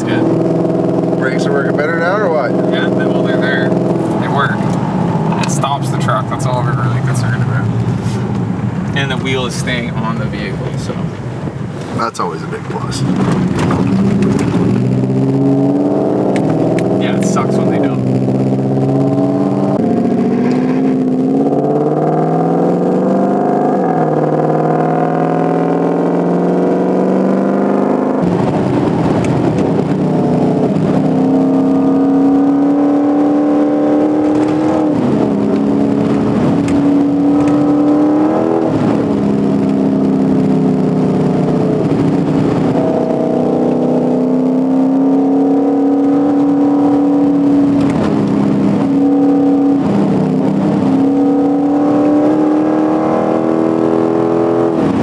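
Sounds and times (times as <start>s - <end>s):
truck engine accelerating: 0.0s - 55.0s.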